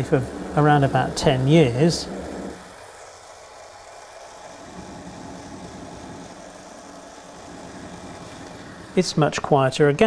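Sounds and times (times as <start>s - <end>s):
model locomotive motor hum: 0.0s - 9.7s.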